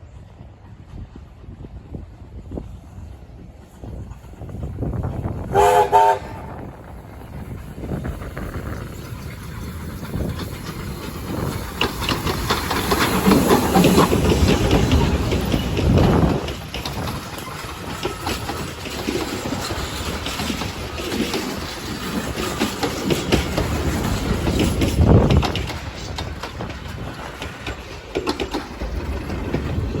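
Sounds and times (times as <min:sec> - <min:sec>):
steam train passing: 0:00.0 - 0:30.0
train wheels clattering over rails: 0:00.0 - 0:30.0.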